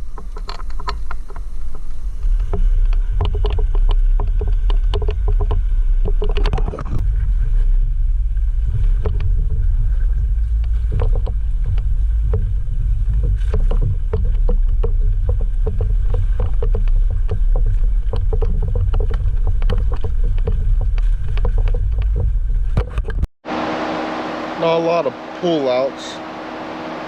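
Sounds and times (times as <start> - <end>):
tires and suspension knocking: 0.0 - 24.5
vehicle rumbling over rocks: 0.0 - 27.0.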